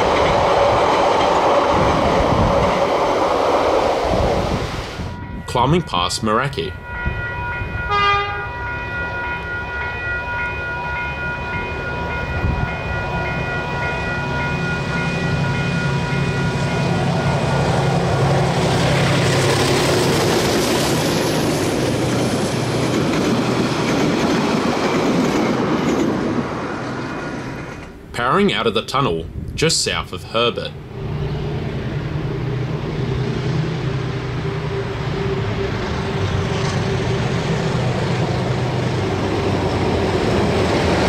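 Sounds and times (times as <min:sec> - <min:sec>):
carriages clattering on rails: 0:00.0 - 0:03.7, 0:06.8 - 0:28.1, 0:31.0 - 0:41.0
diesel locomotive engines: 0:00.0 - 0:41.0.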